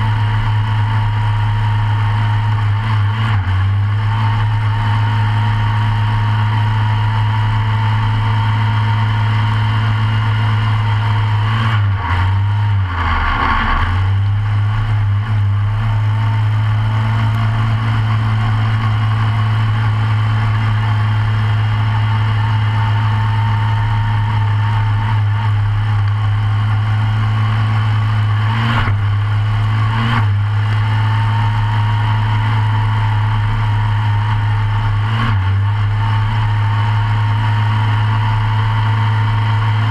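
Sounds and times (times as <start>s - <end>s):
kart engine idling: 0.0s - 3.1s, 3.8s - 11.5s, 12.6s - 39.9s
engine revving blips: 0.0s - 39.9s.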